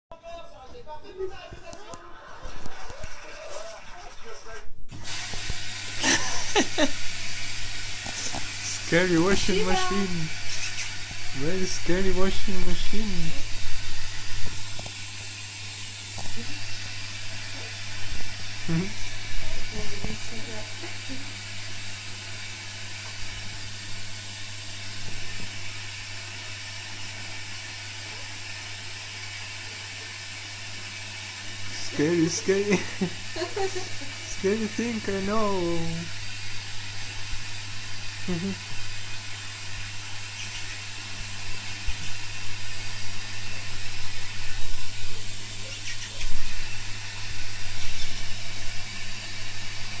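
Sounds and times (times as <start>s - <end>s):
washing machine running: 4.9s - 50.0s.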